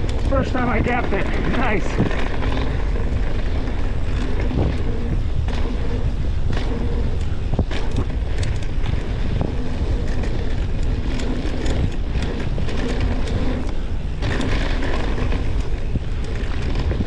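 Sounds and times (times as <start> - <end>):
bike clacking and rattling: 0.0 - 17.0
tyres rolling on dirt: 0.0 - 17.0
wind rushing over microphone: 0.0 - 17.0.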